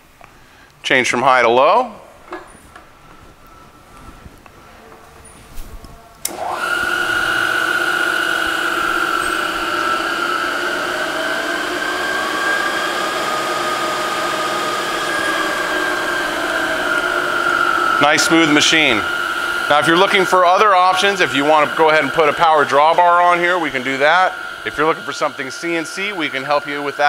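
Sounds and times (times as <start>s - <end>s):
milling machine motor whine: 2.7s - 27.0s.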